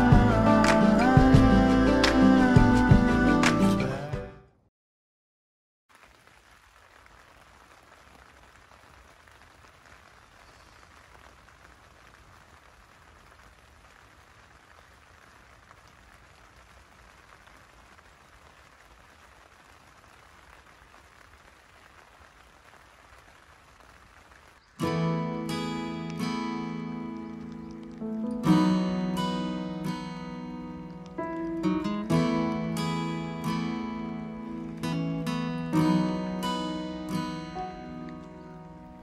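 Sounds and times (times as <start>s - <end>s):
rain on tent roof: 0.0s - 3.8s, 5.9s - 39.0s.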